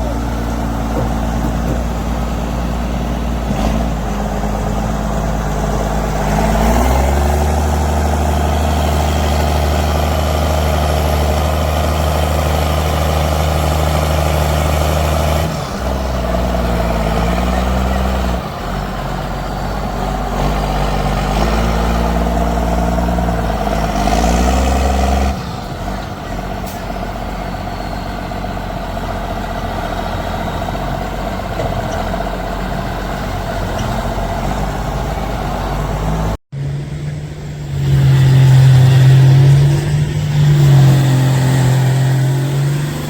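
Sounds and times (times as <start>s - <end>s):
vehicle engine revving: 0.0s - 26.8s, 33.5s - 43.0s.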